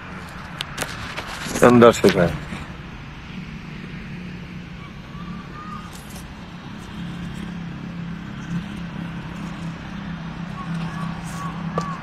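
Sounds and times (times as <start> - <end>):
faint outdoor background noise: 0.0 - 12.0
low engine hum: 0.0 - 12.0.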